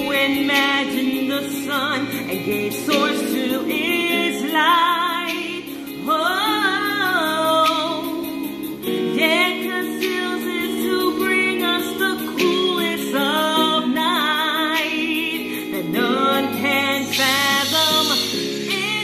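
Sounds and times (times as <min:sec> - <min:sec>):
woman singing gospel: 0:00.0 - 0:19.0.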